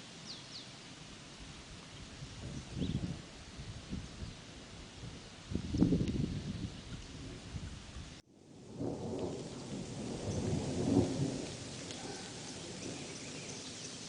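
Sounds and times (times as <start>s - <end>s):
steady rain: 0.0s - 14.0s
thunder rumbling: 2.0s - 14.0s.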